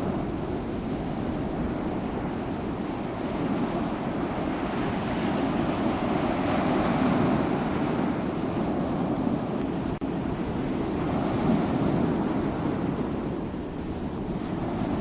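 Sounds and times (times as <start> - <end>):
sea waves rushing surf: 0.0 - 15.0.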